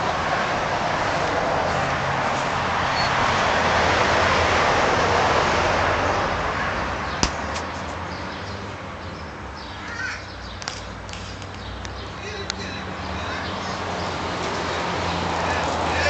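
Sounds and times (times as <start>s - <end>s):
vehicle passing: 0.0s - 9.6s, 11.0s - 16.0s.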